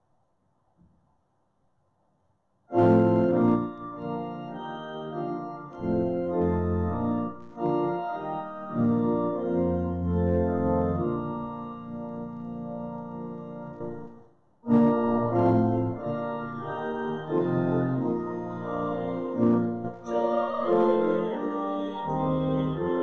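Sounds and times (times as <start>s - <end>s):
pipe organ chords: 2.7s - 23.0s.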